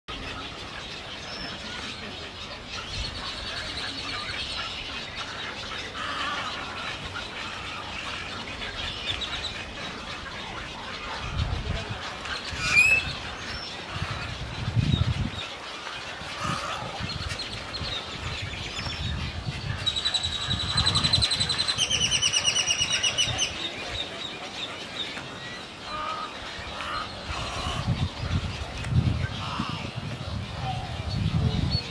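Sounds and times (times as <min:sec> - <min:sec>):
waterbird colony calls: 0:00.1 - 0:31.9.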